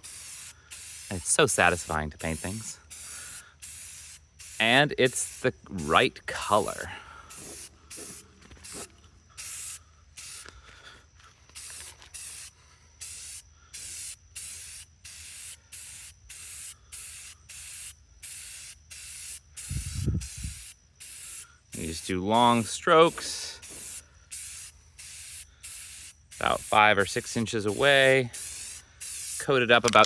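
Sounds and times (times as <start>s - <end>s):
spray paint can hissing: 0.0s - 10.5s, 11.5s - 30.0s.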